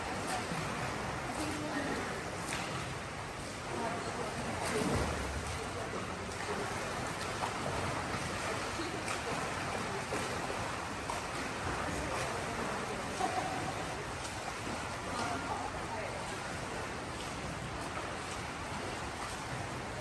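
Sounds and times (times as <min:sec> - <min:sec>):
water splashes and clicks: 0:00.0 - 0:20.0.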